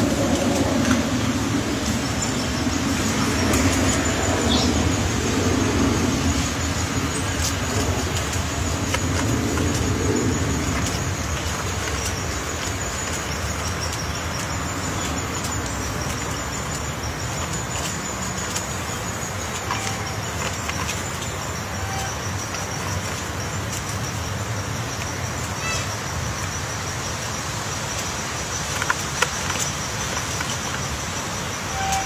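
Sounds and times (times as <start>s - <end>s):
rushing background noise: 0.0s - 32.0s.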